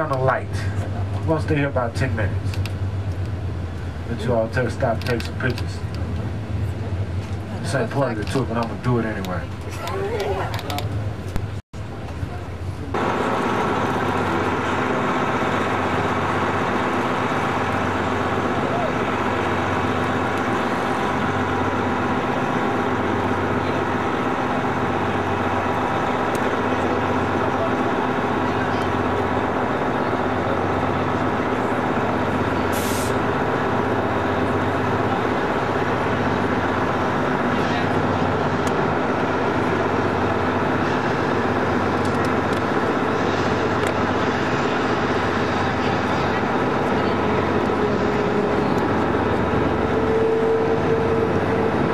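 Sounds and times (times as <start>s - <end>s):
bus engine drone from inside: 0.0s - 51.9s.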